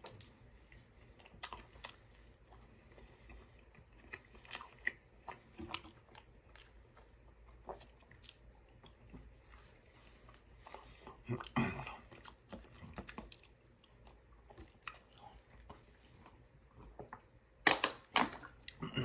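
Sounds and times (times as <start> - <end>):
person chewing crunchy food: 0.0 - 19.0.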